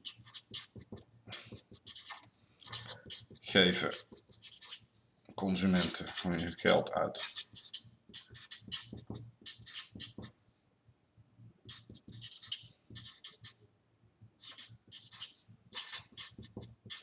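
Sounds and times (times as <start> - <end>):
marker pen writing on paper: 0.0 - 4.9, 5.6 - 10.4, 11.6 - 13.6, 14.4 - 17.0.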